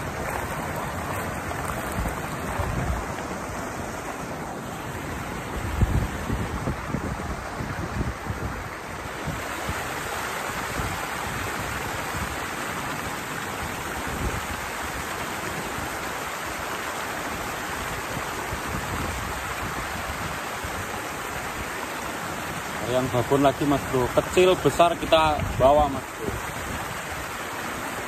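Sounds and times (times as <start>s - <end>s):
wind buffeting microphone: 0.0s - 16.2s, 17.1s - 27.5s
water rushing at weir: 0.0s - 28.0s.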